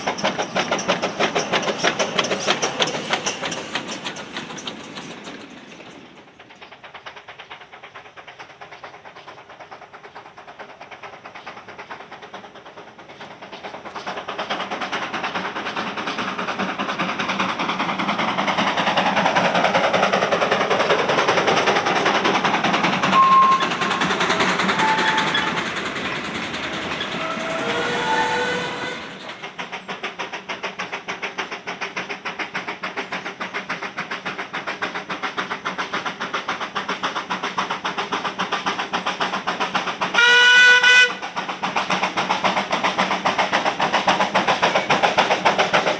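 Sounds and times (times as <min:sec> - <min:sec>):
steam train running: 0:00.0 - 0:45.9.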